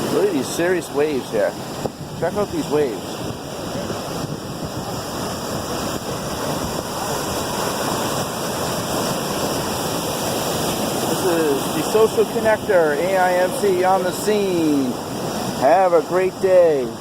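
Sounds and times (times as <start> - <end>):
breaking ocean waves: 0.0 - 17.0.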